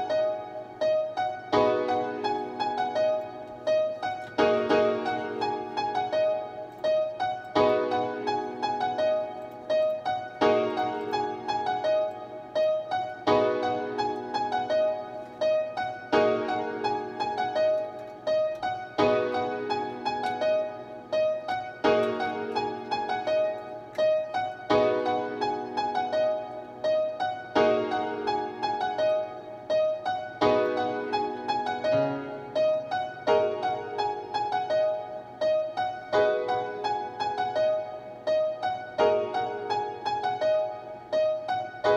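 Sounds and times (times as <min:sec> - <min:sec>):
piano chords: 0:00.0 - 0:41.9.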